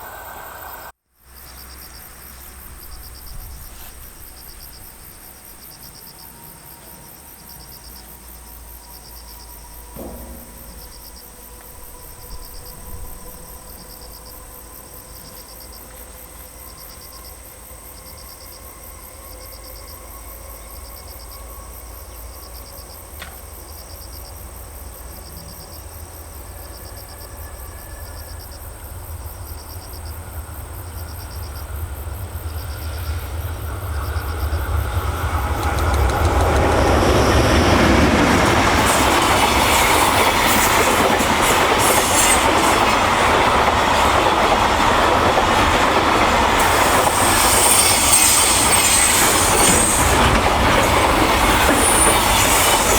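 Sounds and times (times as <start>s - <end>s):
constant high insect chirr: 0.0s - 52.9s
freight train rumble: 0.0s - 52.9s
insects chirping in trills: 0.0s - 52.9s.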